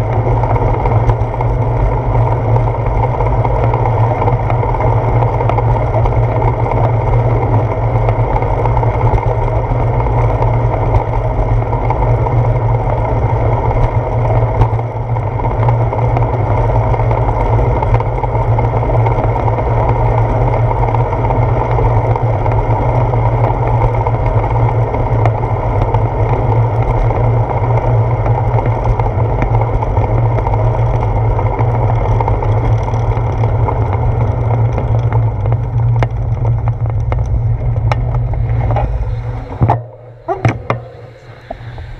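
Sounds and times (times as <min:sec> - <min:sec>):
bicycle rolling rumble: 0:00.0 - 0:41.9
wind rush on microphone: 0:00.0 - 0:41.9.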